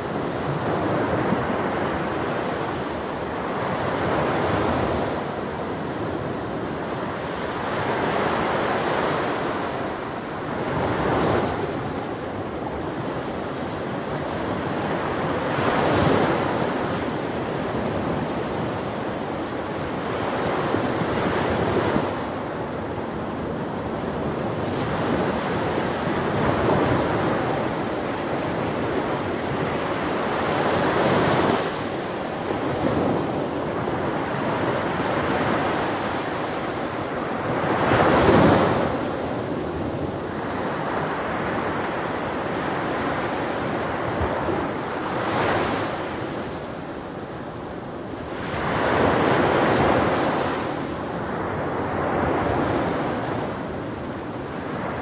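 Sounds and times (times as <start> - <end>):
ocean waves breaking on a beach: 0.0 - 55.0.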